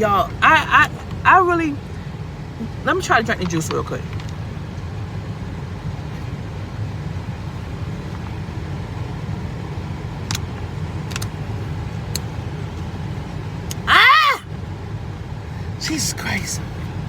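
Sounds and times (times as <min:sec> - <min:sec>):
vehicle running low rumble: 0:00.0 - 0:13.9.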